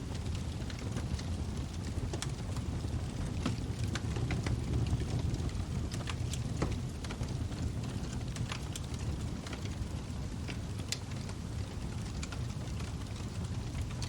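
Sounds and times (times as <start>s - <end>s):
log fire crackling and popping: 0.0s - 14.0s.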